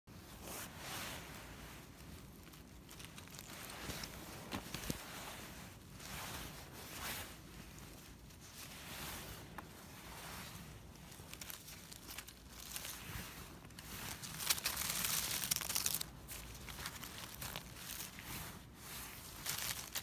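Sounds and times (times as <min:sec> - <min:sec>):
jacket and dry leaves rustling: 0:00.2 - 0:20.0.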